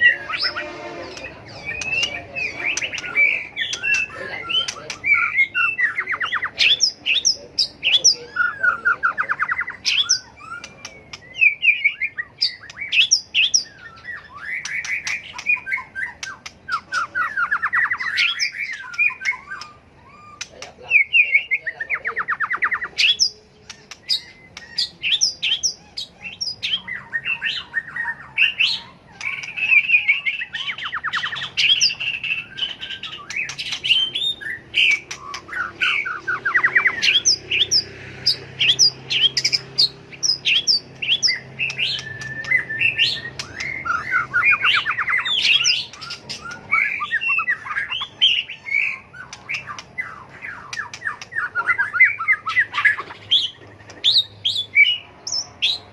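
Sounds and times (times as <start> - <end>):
bird singing whistles and trills: 0.0 - 55.9.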